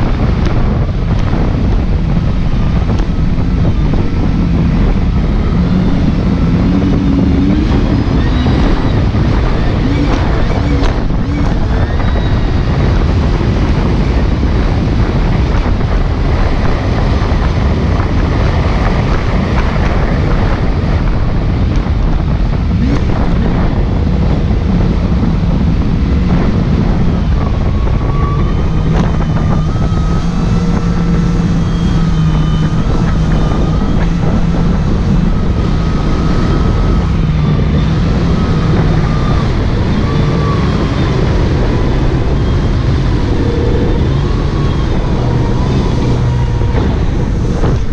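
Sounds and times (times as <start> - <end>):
jet ski engine drone with whine: 0.0 - 47.9
wind noise on microphone: 0.0 - 47.9.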